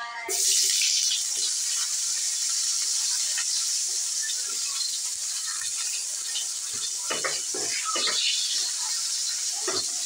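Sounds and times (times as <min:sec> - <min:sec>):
onion rings sizzling in oil: 0:00.3 - 0:10.0.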